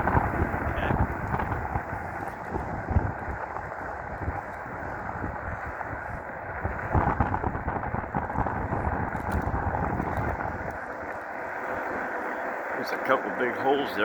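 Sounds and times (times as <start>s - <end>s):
road and tire noise: 0.0s - 14.0s
wind buffeting microphone: 0.0s - 14.0s.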